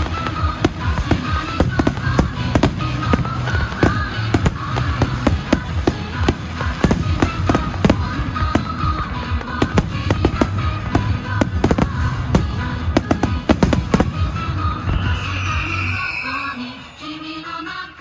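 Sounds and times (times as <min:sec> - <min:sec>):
fireworks bursting: 0:00.0 - 0:17.9
music playing: 0:00.0 - 0:18.0.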